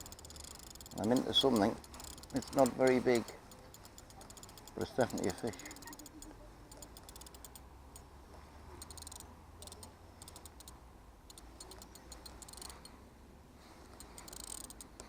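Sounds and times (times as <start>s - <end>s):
fishing reel ticking: 0.0s - 8.1s, 8.8s - 13.0s, 14.0s - 15.0s.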